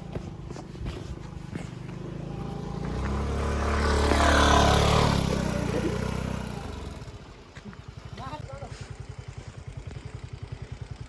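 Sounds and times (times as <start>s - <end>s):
vehicle engine pulling hard: 0.0s - 11.0s.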